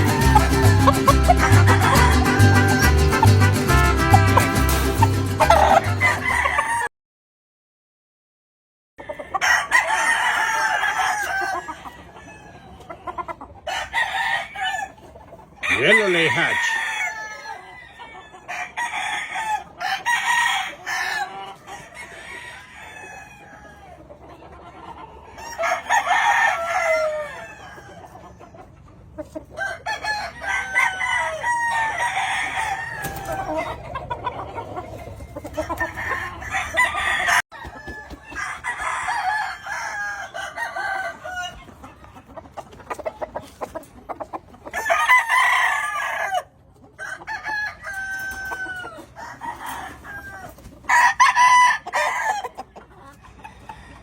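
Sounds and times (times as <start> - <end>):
chickens clucking: 0.0 - 6.9, 9.0 - 54.0
roosters crowing: 0.0 - 6.9, 9.0 - 24.2, 25.0 - 28.5, 29.4 - 42.0, 44.6 - 52.7, 53.3 - 54.0.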